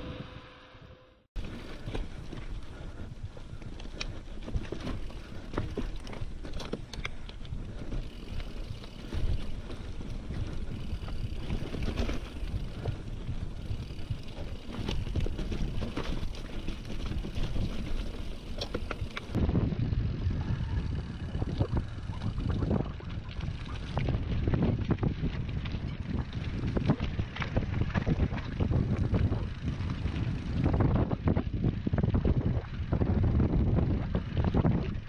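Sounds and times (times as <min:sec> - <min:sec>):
bike clattering and rattling: 0:01.4 - 0:35.0
wind buffeting microphone: 0:01.4 - 0:35.0.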